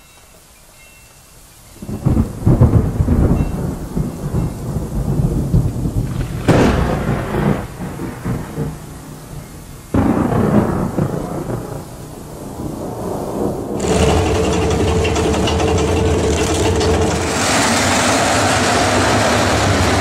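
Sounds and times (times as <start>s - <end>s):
thunder cracks: 1.8s - 20.0s
thunder rumbling: 1.8s - 20.0s.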